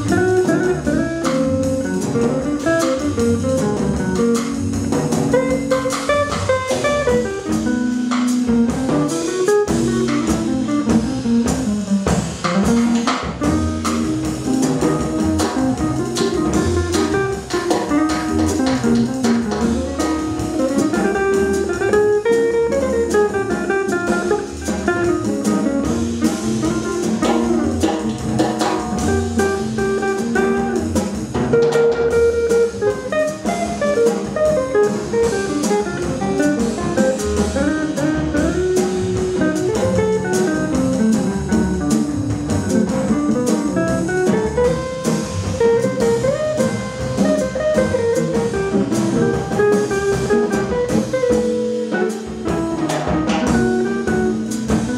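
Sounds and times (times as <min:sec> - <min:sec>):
drum kit: 0:00.0 - 0:54.9
guitar lines: 0:00.0 - 0:54.9
upright bass: 0:00.0 - 0:54.9.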